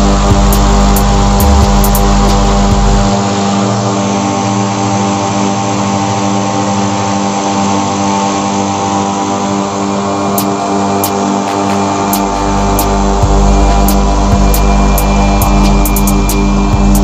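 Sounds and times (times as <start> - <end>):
electric mower motor humming: 0.0 - 17.0.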